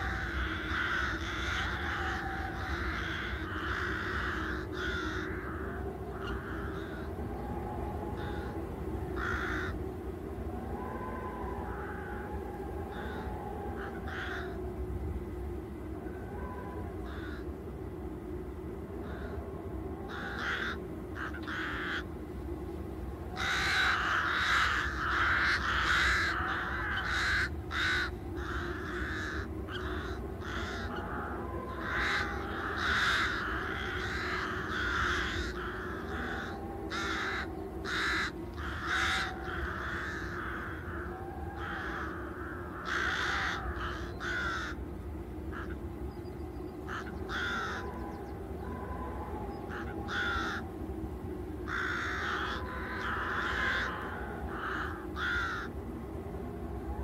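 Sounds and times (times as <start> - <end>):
birds harsh calls: 0.0 - 9.8, 11.2 - 14.6, 16.4 - 17.6, 20.1 - 22.1, 23.3 - 50.7, 51.5 - 55.8
low steady rumble: 0.0 - 57.0.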